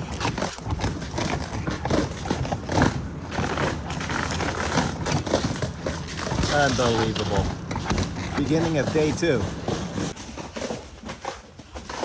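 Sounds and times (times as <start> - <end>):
tools knocking and scraping on roof: 0.0 - 12.0.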